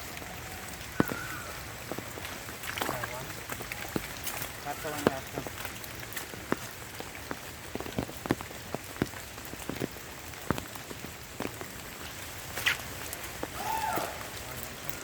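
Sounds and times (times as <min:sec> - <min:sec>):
rain hissing: 0:00.0 - 0:15.0
raindrops hitting: 0:00.0 - 0:15.0.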